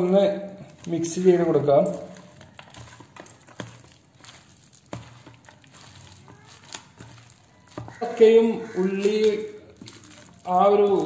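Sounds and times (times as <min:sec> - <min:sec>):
hand squelching wet paste: 0:00.0 - 0:11.0.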